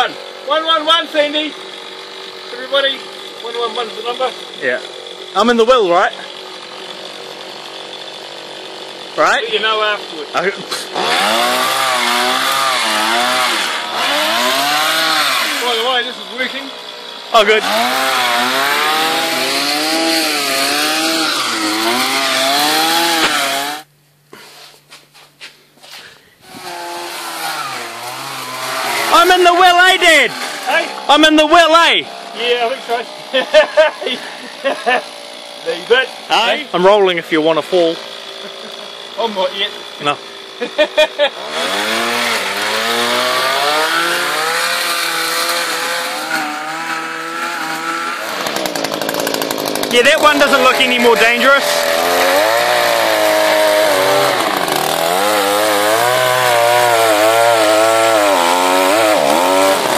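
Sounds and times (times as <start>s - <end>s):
chainsaw cutting wood: 0.0s - 24.5s, 26.4s - 59.9s.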